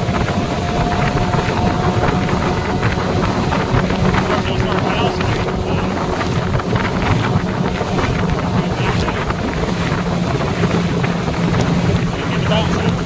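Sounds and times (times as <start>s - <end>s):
outboard motor running: 0.0s - 13.0s
water knocking against hull: 0.0s - 13.0s
wind buffeting microphone: 0.0s - 13.0s.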